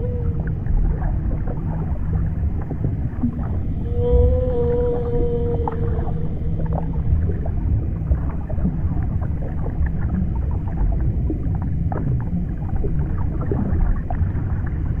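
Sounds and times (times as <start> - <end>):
deep underwater rumble: 0.0 - 15.0.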